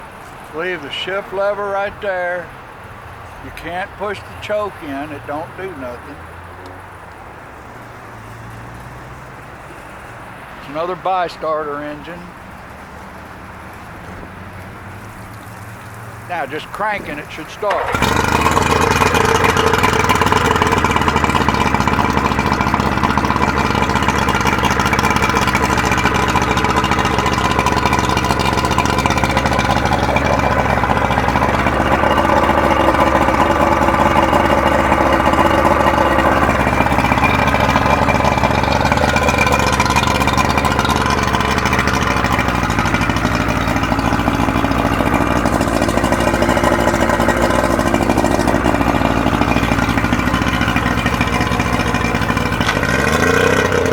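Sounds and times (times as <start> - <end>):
outboard motor idling: 0.0 - 53.9.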